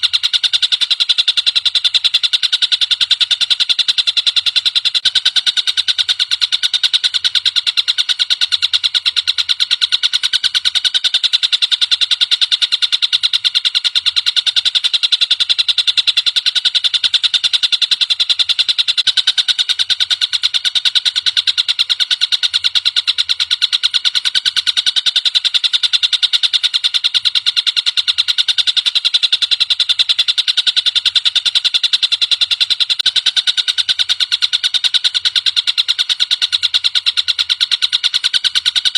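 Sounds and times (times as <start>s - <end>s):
bird fast high-pitched trill: 0.0s - 38.9s.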